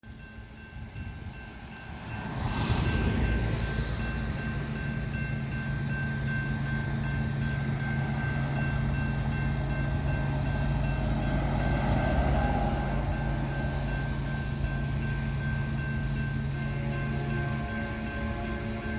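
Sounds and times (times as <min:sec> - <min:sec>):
train wheels on rail: 0:00.1 - 0:18.9.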